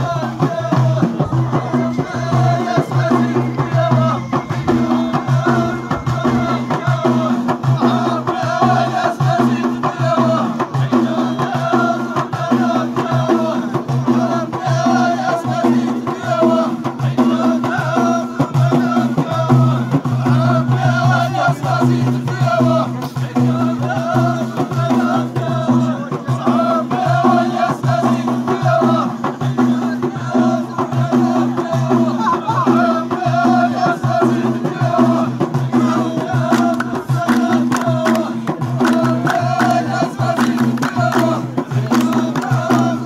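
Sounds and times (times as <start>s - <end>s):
frame drums beating: 0.0s - 43.0s
men chanting in unison: 0.0s - 43.0s.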